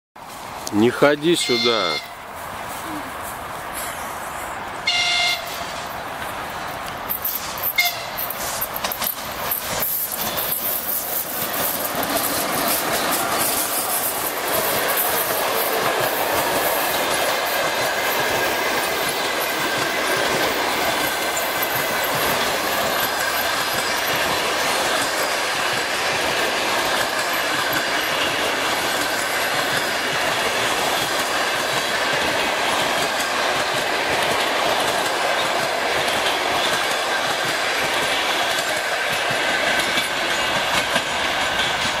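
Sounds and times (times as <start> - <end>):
train wheels on rails: 0.2 - 42.0.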